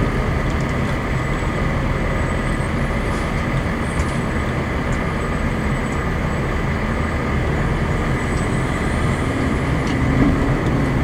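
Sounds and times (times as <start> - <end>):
fire engine motor running: 0.0 - 11.0.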